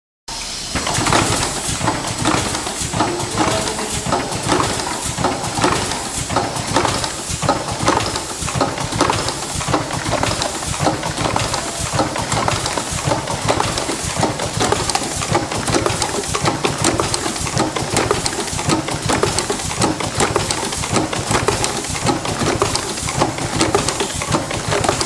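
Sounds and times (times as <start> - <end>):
packaging machine clacking: 0.7 - 25.0.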